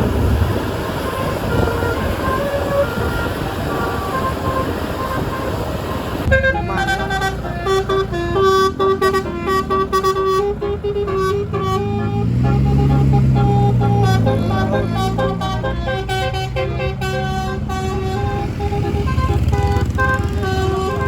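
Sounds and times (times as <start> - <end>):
air horn playing a tune: 0.0 - 21.0
bus engine: 0.0 - 21.0.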